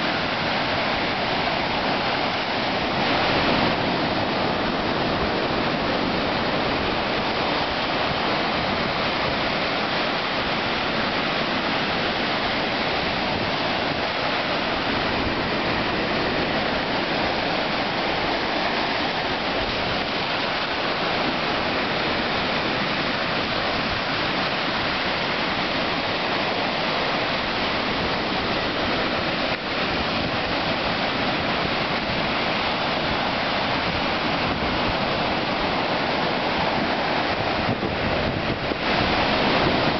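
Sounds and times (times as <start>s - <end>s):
waves washing up a beach: 0.0s - 39.9s.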